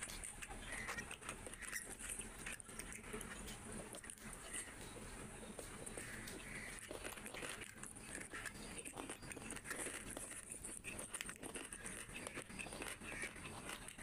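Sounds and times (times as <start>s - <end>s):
chewing food: 0.0s - 14.0s
fingers squishing food on plate: 0.0s - 14.0s.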